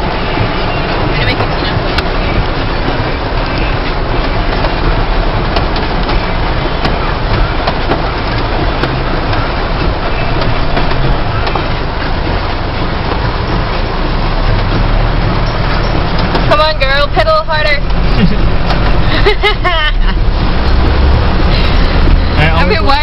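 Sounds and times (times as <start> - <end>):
rush of water and rain: 0.0 - 23.0
vehicle running: 0.0 - 23.0.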